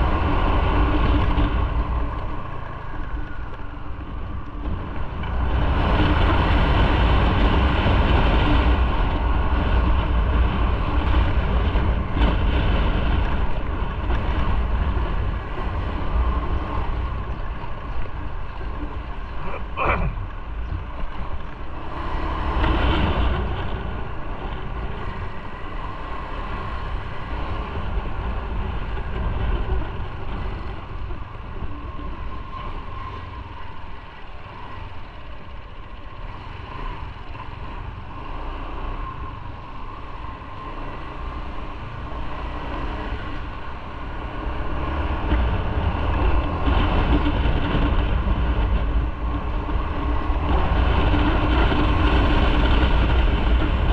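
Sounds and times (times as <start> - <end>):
motorcycle engine: 0.0 - 53.9
road noise: 0.0 - 53.9.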